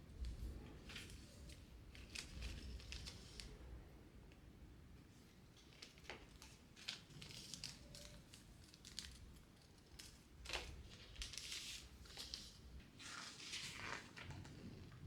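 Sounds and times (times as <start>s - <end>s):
soft crinkling and rustling: 0.1s - 3.8s, 5.2s - 15.0s.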